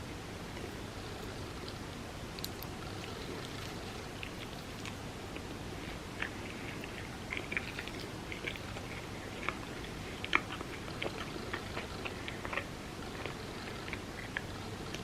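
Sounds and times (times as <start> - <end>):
steady low hiss: 0.0 - 15.0
mouth chewing food: 0.4 - 15.0.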